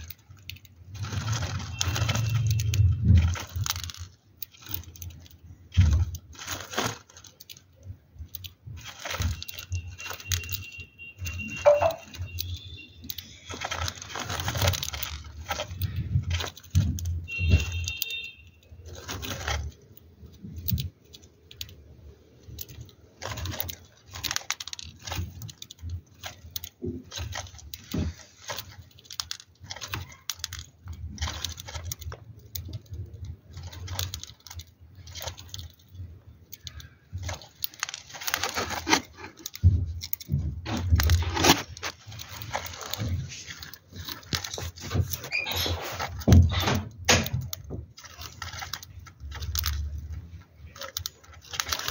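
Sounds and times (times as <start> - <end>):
husks rustling against cardboard: 0.0 - 10.8, 11.4 - 51.9
bird cracking seeds: 0.0 - 51.9.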